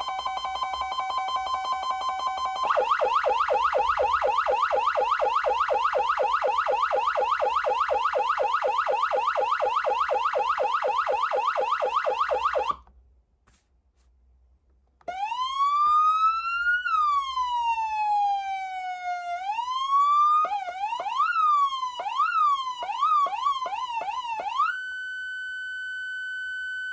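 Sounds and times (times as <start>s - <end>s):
electronic siren yelp: 0.0s - 12.8s, 15.1s - 26.9s.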